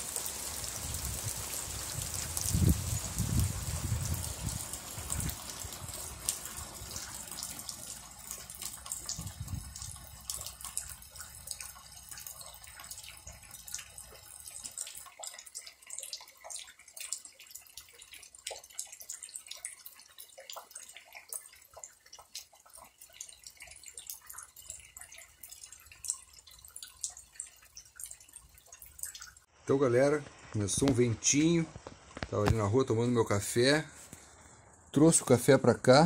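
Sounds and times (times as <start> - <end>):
rain drops splashing: 0.0 - 29.5, 30.2 - 35.6.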